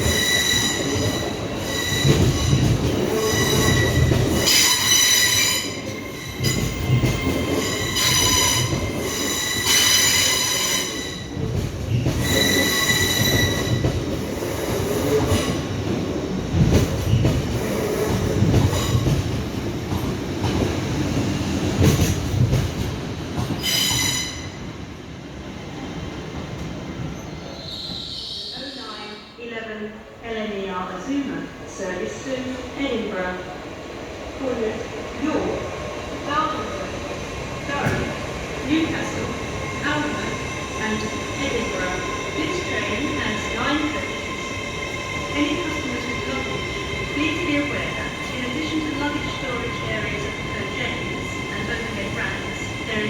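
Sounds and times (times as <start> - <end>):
train rumbling over rails: 0.0 - 28.1, 30.8 - 53.0.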